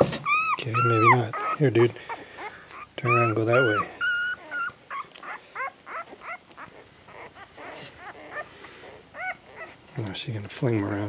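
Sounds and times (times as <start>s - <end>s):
puppy squeaking: 0.0s - 9.9s.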